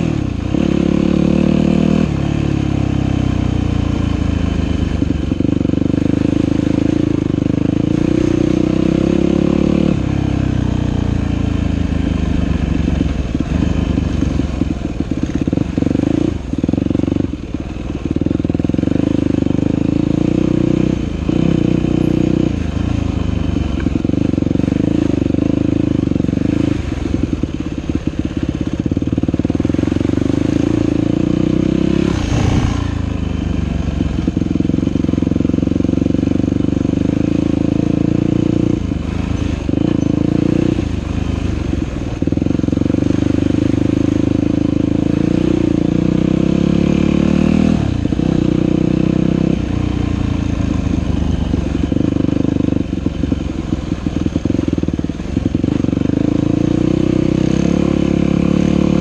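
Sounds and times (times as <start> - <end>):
dirt bike engine revving: 0.0 - 17.3, 18.1 - 27.4, 28.2 - 59.0.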